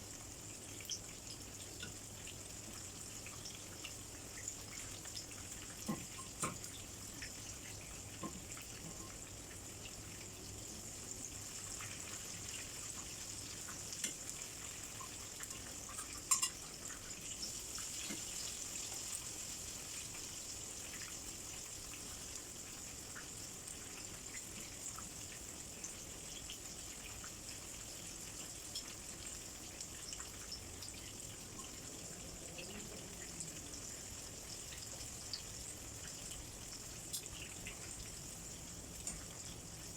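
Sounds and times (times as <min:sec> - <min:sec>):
shrimp sizzling in hot oil: 0:00.0 - 0:39.9.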